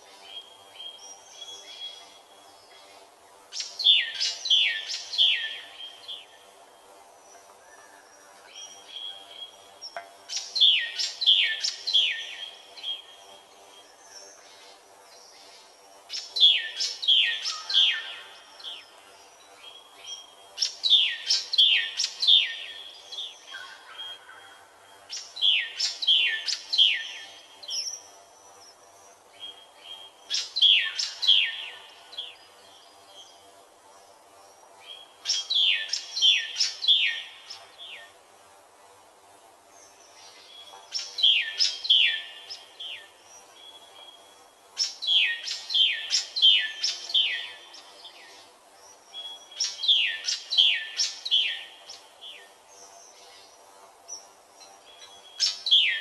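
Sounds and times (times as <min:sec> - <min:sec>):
songbird singing: 0:00.0 - 0:38.6, 0:39.3 - 0:56.0
faint steady hum: 0:00.0 - 0:56.0.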